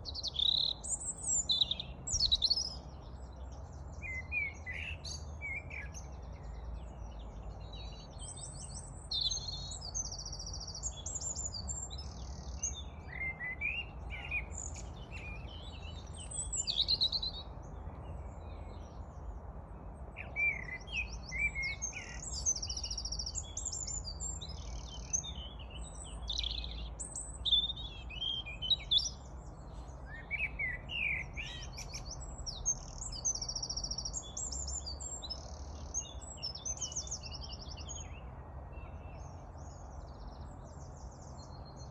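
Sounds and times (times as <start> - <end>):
birds singing: 0.0 - 41.9.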